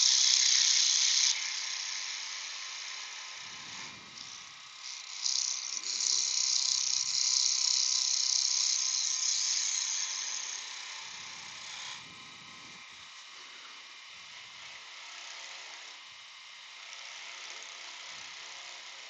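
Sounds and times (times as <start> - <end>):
wood lathe running: 0.0 - 12.0, 13.0 - 15.9, 16.8 - 19.0
turning tool hissing on wood: 0.0 - 16.0.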